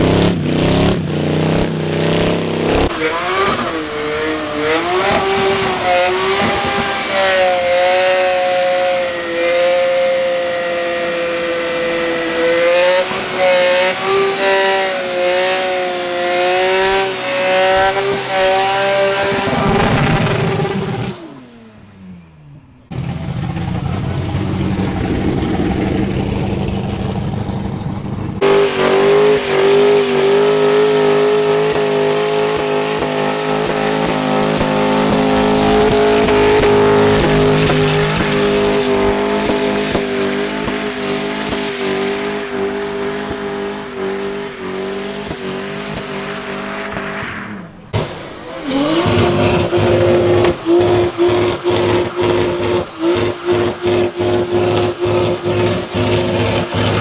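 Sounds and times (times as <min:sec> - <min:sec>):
car engines revving high: 0:00.0 - 0:57.0.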